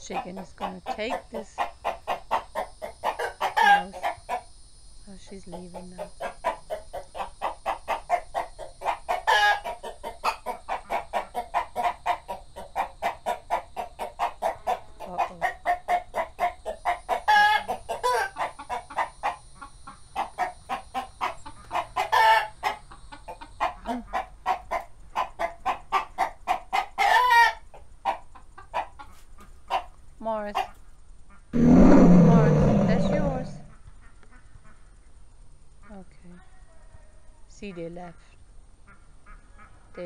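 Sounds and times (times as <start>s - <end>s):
hens clucking: 0.0s - 4.5s, 5.2s - 34.9s.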